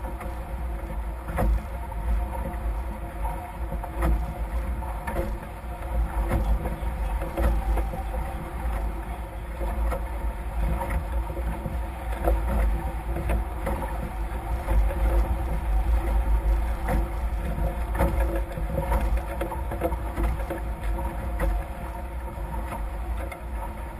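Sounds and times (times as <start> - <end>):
catamaran hulls splashing through water: 0.0 - 23.9
wind buffeting microphone: 0.0 - 23.9.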